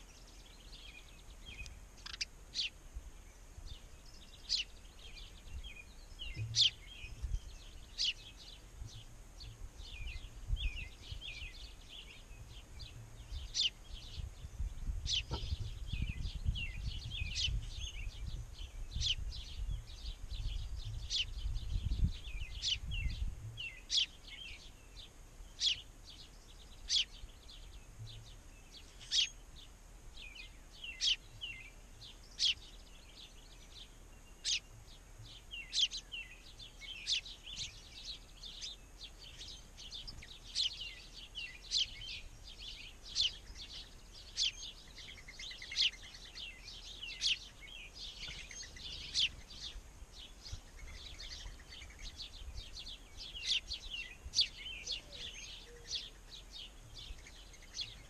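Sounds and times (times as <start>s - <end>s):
faint background noise: 0.0s - 58.0s
small songbirds chirping: 0.0s - 58.0s.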